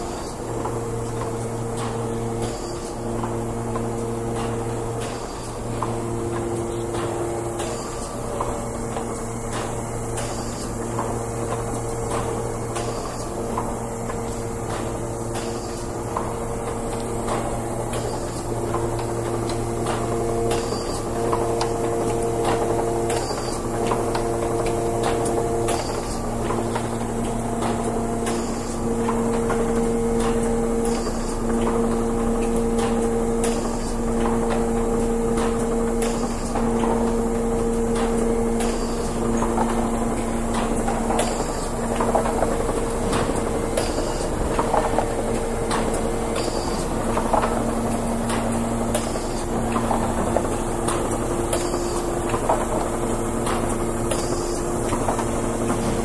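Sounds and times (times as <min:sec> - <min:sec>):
machine hum with pitched tones: 0:00.0 - 0:56.0.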